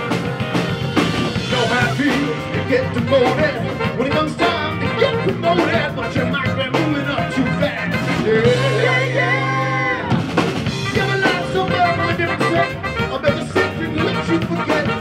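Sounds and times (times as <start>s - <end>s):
live rock band with horns: 0.0s - 15.0s.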